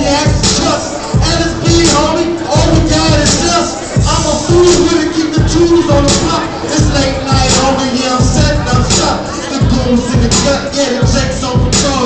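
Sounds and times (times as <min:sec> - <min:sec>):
deep bass kicks: 0:00.0 - 0:12.0
hip hop beat over speakers: 0:00.0 - 0:12.0.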